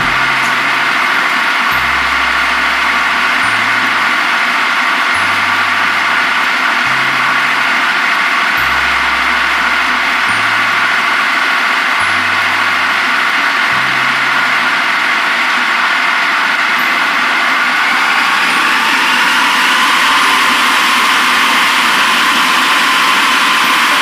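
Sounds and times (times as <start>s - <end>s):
food processor running: 0.0s - 24.0s.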